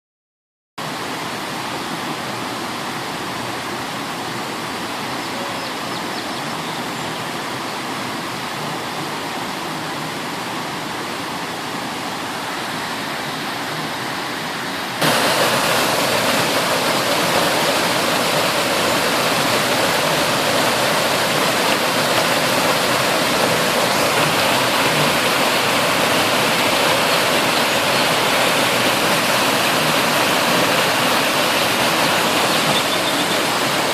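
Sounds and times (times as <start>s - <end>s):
water fountain splashing: 0.8s - 33.9s.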